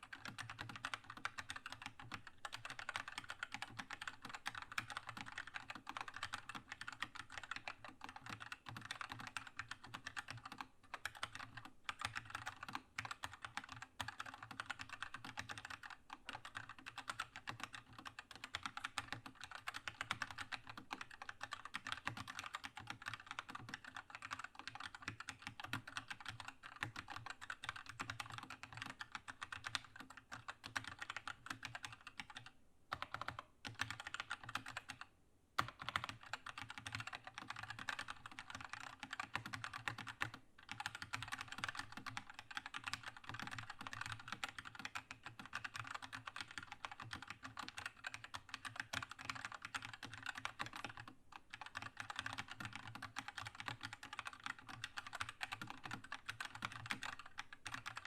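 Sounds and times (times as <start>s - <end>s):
fast typing on mechanical keyboard: 0.0s - 58.0s.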